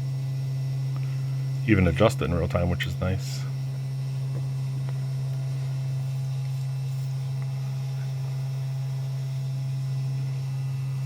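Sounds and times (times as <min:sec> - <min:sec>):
faint high whining tones: 0:00.0 - 0:11.0
spindle motor hum: 0:00.0 - 0:11.0.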